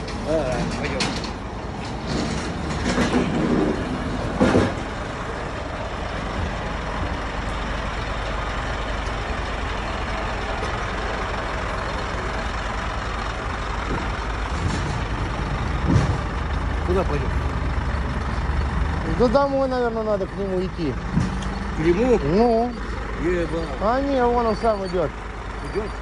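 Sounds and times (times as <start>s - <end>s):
truck diesel engine idling: 0.0s - 26.0s.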